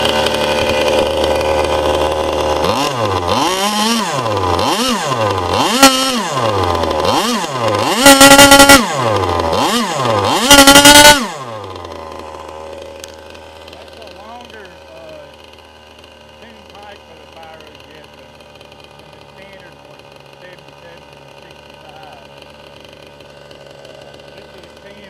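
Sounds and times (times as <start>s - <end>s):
model engine revving: 0.0s - 25.0s.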